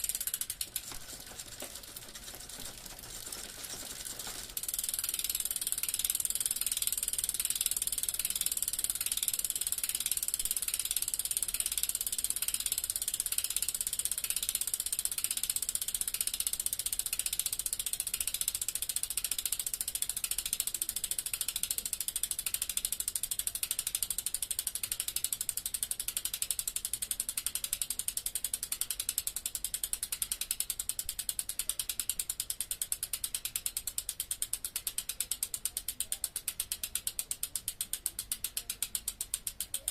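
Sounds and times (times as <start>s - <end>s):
bicycle freewheel ratcheting: 0.0s - 39.9s.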